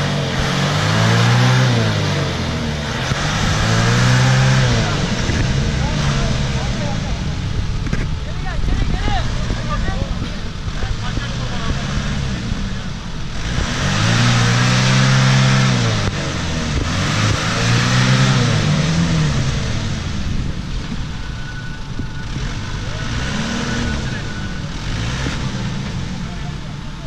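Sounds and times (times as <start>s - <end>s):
engine revving hard: 0.0s - 20.7s, 22.2s - 26.6s.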